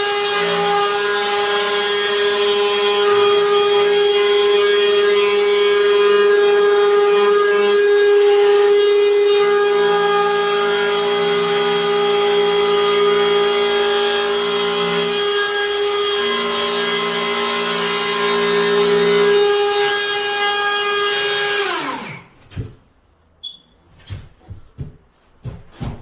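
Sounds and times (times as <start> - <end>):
router whining cutting wood: 0.0 - 22.3.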